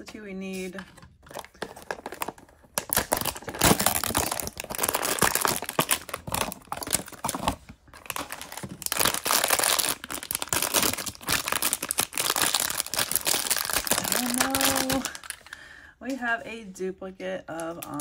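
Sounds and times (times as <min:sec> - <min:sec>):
plastic packaging crinkling and tearing: 0:00.9 - 0:15.6, 0:17.6 - 0:18.0.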